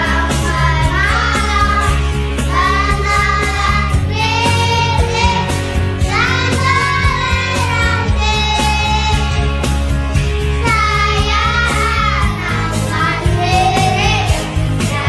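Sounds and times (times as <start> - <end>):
children singing together: 0.0 - 9.5, 10.5 - 15.0
backing track with heavy bass: 0.0 - 15.0.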